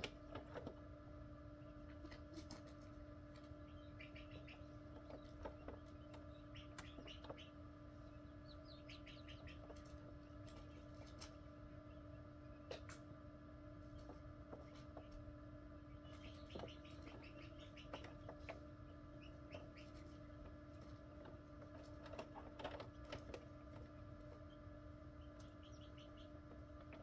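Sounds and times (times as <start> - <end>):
incubator hum: 0.0 - 27.0
quail chicks peeping: 0.0 - 27.0.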